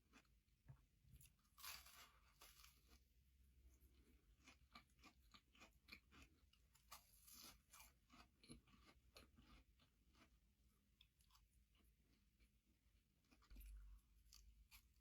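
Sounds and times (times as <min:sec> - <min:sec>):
chewing crispy chicken: 0:00.0 - 0:00.4, 0:01.2 - 0:15.0.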